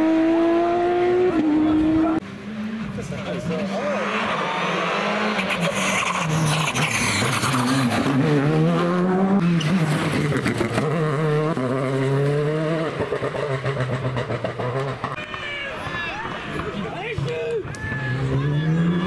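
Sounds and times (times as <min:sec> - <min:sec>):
rally car engines revving: 0:00.0 - 0:15.2, 0:16.3 - 0:19.0.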